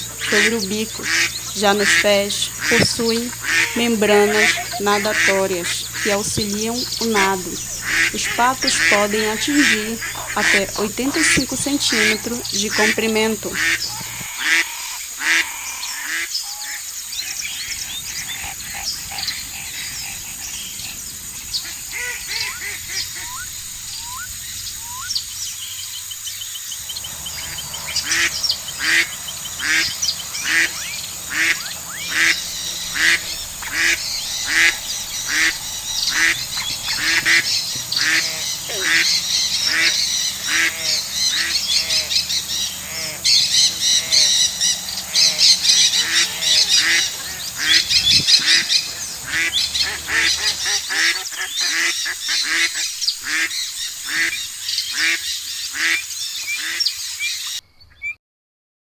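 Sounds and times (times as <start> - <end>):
ducks quacking: 0.0 - 25.1, 26.7 - 56.9.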